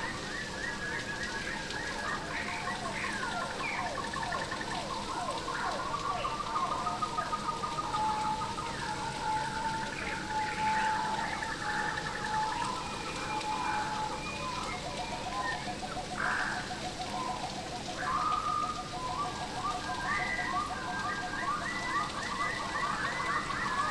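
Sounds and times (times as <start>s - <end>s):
birds calling and singing: 0.0s - 23.9s
steady rain falling: 0.0s - 23.9s.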